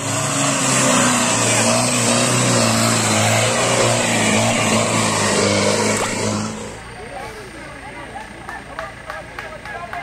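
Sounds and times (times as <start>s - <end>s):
jeep engine working under load: 0.0s - 10.0s.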